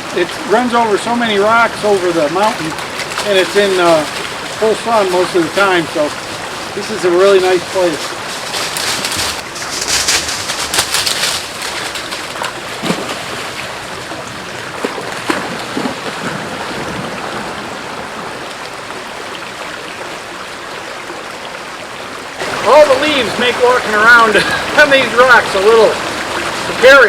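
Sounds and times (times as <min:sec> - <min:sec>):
creek rushing over rocks: 0:00.0 - 0:27.0
water splashing: 0:00.0 - 0:27.0.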